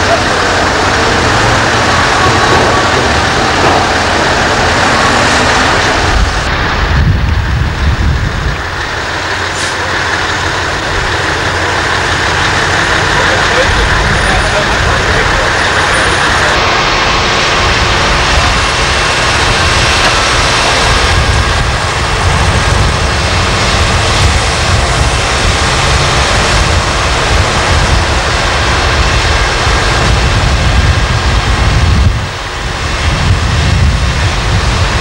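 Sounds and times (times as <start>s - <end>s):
diesel engine running loudly: 0.0s - 35.0s.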